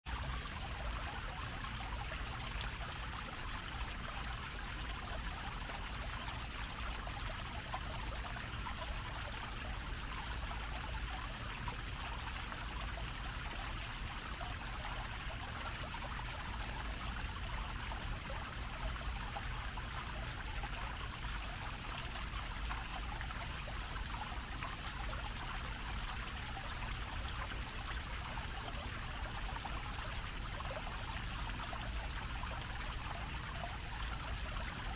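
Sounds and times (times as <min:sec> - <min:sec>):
fountain water splashing: 0:00.1 - 0:34.9.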